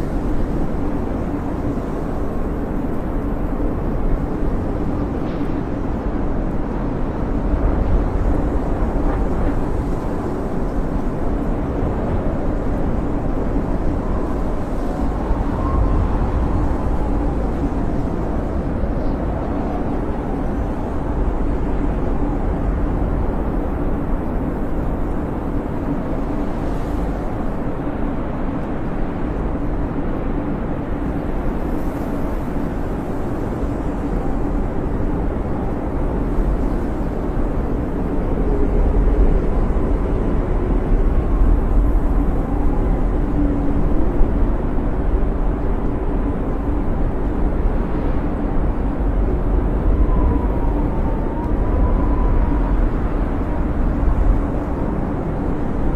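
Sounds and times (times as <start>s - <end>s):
faint wind whistle: 0.0s - 29.8s, 30.6s - 55.9s
snowstorm wind rushing: 0.0s - 55.9s.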